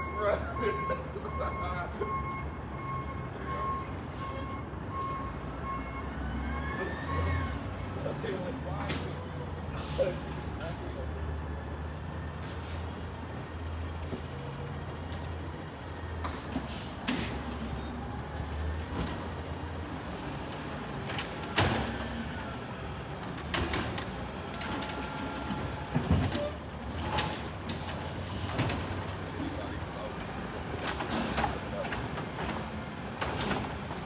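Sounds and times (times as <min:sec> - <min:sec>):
garbage truck diesel engine: 0:00.0 - 0:34.0.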